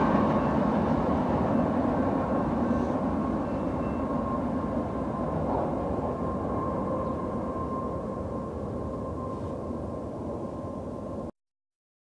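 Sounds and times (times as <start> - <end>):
freight train rumbling: 0.0 - 11.3
thin steady whine: 0.0 - 11.3.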